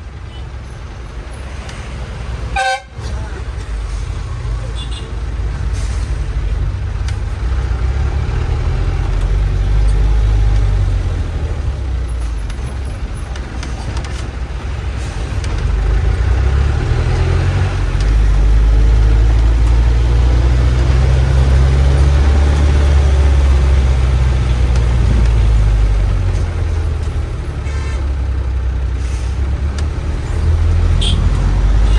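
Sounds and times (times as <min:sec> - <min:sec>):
bus diesel engine running: 0:00.0 - 0:31.9
road noise: 0:00.0 - 0:31.9.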